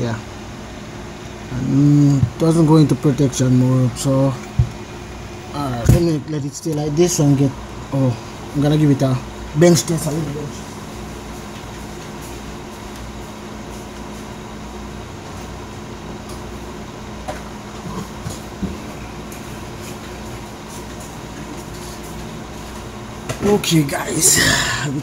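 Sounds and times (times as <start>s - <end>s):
amplifier cooling fan whirring: 0.0s - 25.0s.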